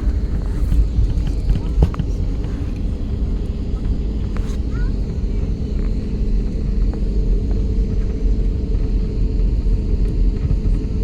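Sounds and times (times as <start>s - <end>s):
jet airliner rumble: 0.0s - 11.0s.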